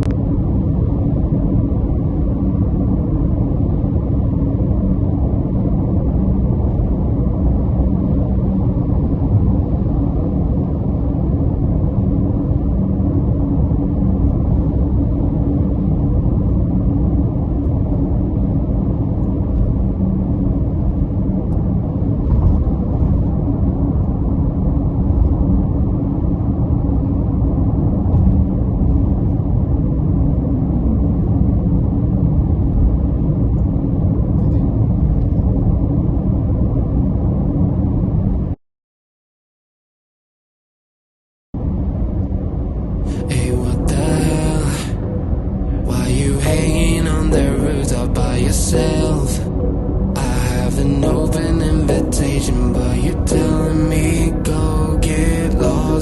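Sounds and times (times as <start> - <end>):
vehicle engine rumbling: 0.0 - 38.6, 41.6 - 56.0.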